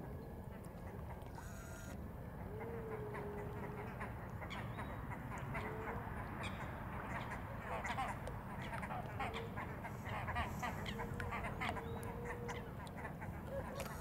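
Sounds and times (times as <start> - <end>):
waterbirds calling: 0.0 - 14.0.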